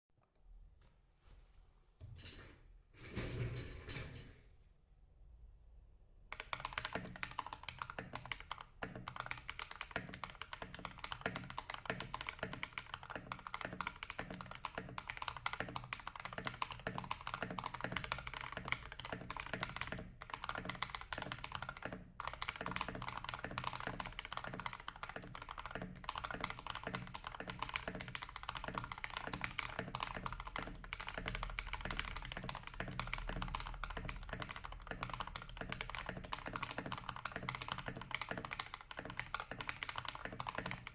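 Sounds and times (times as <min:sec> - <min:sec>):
mechanical keyboard typing: 0:06.3 - 0:40.9.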